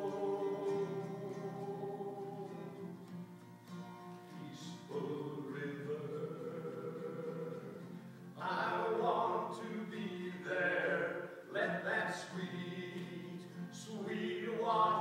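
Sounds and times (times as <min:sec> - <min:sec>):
people singing worship song: 0:00.0 - 0:03.0, 0:04.4 - 0:15.0
strummed acoustic guitar: 0:00.0 - 0:15.0.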